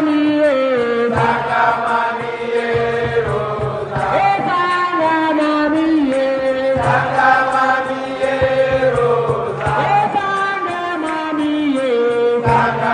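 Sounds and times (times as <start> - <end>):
voices singing long held notes: 0.0 - 12.9.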